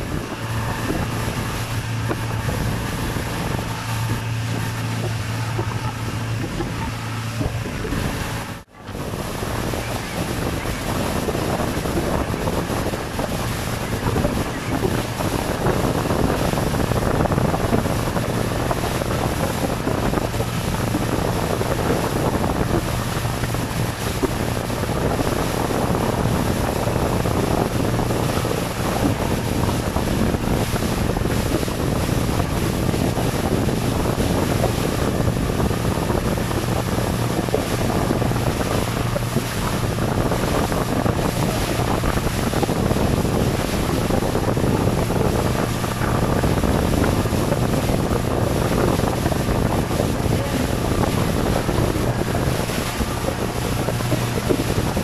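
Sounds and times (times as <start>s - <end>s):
boat engine drone: 0.0s - 55.0s
water rushing along hull: 0.0s - 55.0s
wind buffeting microphone: 0.0s - 55.0s.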